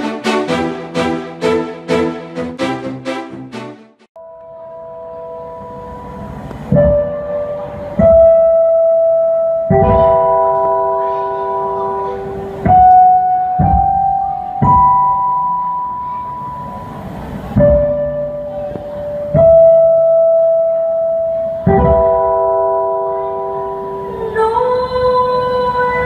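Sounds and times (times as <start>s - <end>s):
bell-like keyboard notes: 4.2s - 26.0s.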